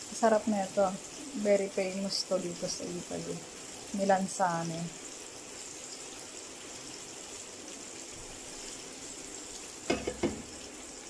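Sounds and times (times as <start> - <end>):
eggplant sizzling in oil: 0.0 - 11.0.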